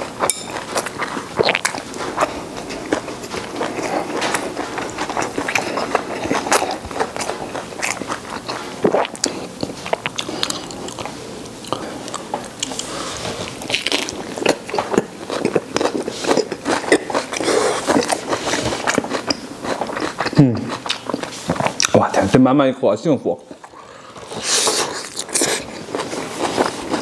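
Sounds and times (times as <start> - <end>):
man chewing and crunching food: 0.0 - 22.2, 23.4 - 27.0.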